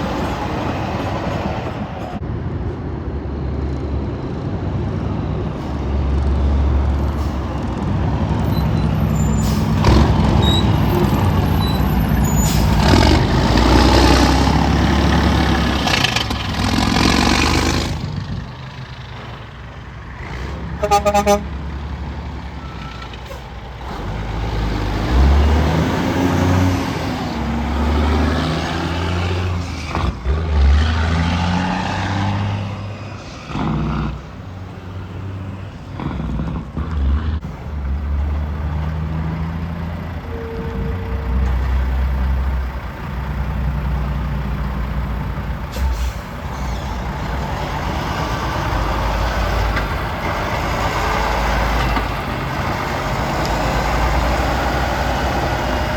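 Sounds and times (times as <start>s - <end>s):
heavy trucks diesel engines: 0.0s - 55.9s.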